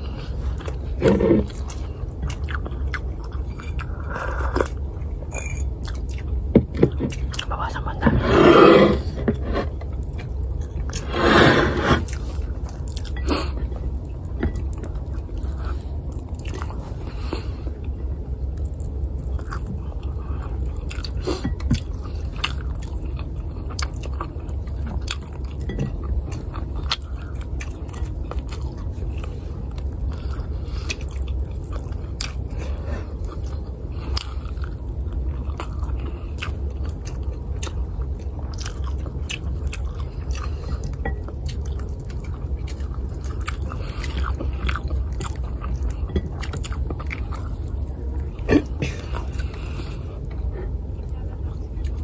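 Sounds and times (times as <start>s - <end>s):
person chewing: 0.0s - 52.0s.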